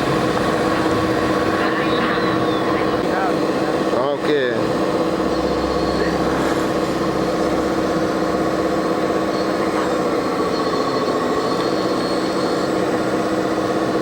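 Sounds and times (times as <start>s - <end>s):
model machines engine-like hum: 0.0s - 14.0s.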